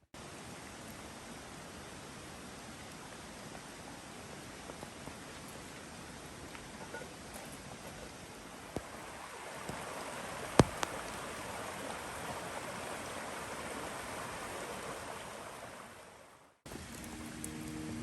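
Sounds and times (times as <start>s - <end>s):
steady rain falling: 0.2s - 18.0s.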